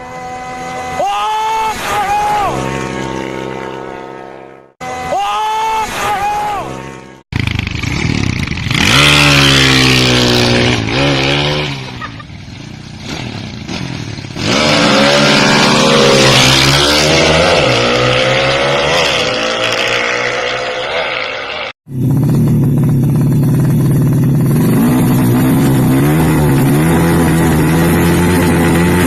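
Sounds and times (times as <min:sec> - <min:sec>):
motorcycle engine revving: 0:02.4 - 0:04.8, 0:06.6 - 0:29.0.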